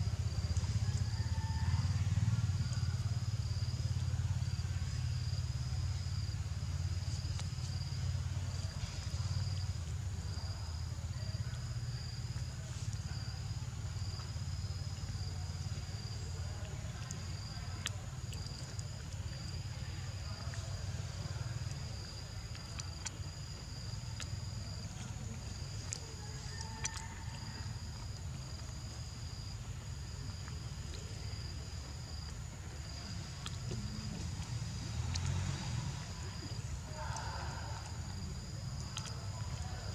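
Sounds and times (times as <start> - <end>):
insects trilling in pulsing chirps: 0.0 - 39.9.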